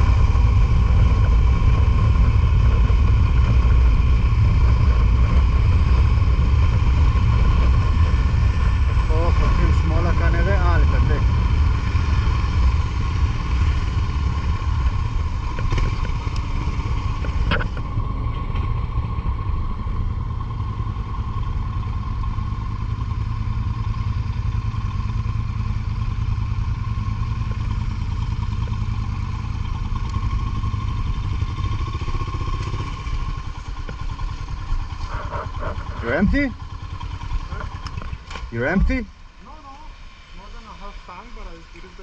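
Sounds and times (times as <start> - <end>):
motorcycle engine running: 0.0 - 42.0
wind and road noise: 0.0 - 42.0.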